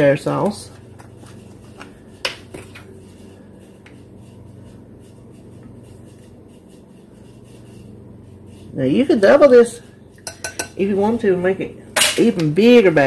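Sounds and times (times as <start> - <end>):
low room tone hum: 0.0 - 13.0.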